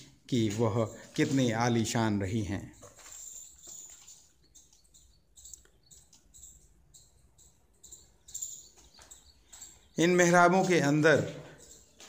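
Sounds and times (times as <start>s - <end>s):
faint high bird chirps: 0.4s - 12.0s.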